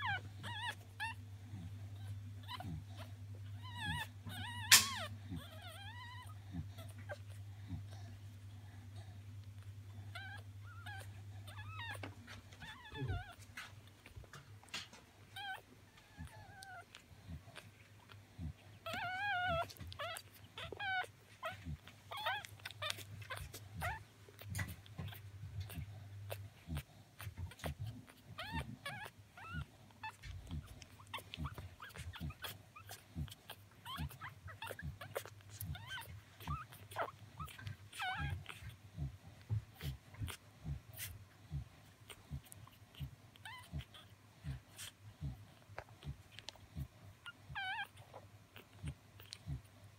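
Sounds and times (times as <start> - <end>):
puppies squeaking and whimpering: 0.0 - 8.2, 9.4 - 49.9.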